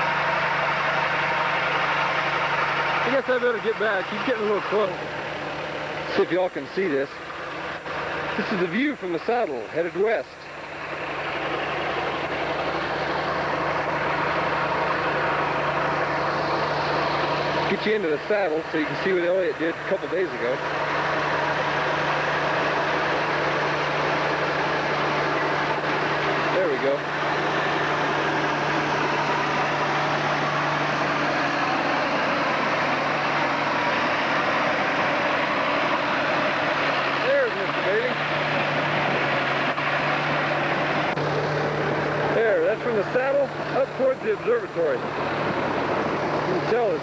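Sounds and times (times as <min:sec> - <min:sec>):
bulldozer engine running: 0:00.0 - 0:47.0.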